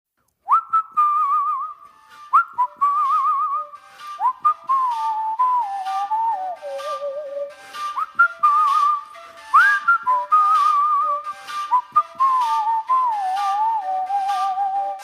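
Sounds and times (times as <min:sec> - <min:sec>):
whistled melody: 0:00.4 - 0:15.0.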